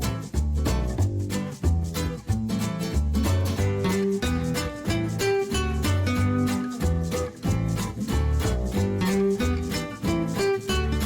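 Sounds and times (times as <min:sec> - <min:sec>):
acoustic guitar music with beat: 0:00.0 - 0:11.0.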